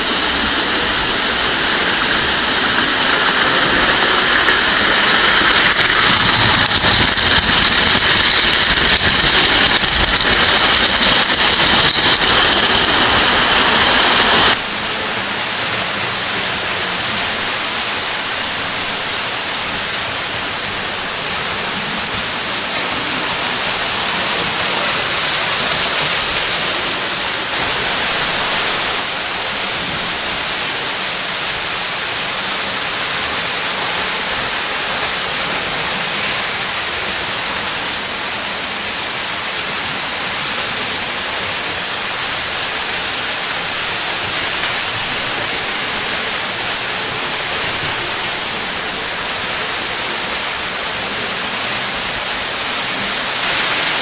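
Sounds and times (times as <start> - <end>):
toy trains on metal track: 0.0 - 54.0.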